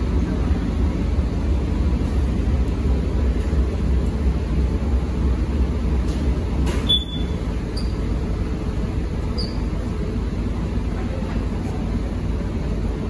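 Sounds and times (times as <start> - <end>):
ferry engine drone: 0.0 - 13.0.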